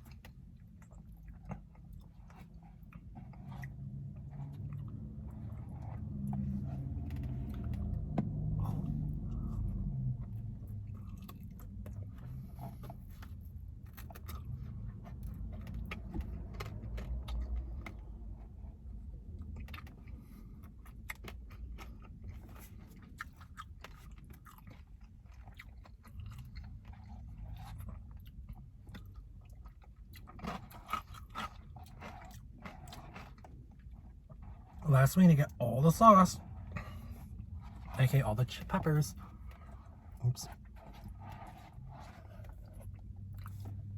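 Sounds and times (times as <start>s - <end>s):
chewing and crunching: 0.0s - 43.9s
low steady rumble: 0.0s - 43.9s.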